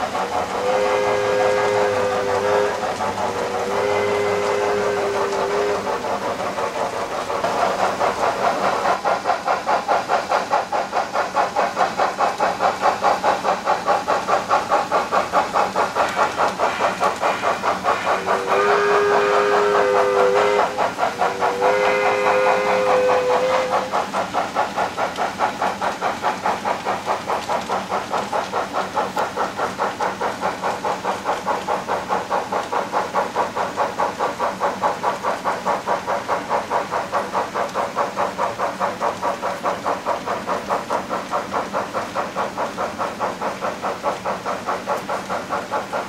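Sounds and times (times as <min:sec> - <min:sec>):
model steam locomotive chuffing: 0:00.0 - 0:46.0.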